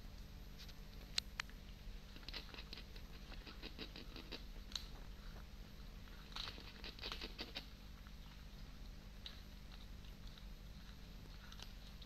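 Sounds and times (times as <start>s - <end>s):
cat chewing with crunching clicks: 1.0s - 12.0s.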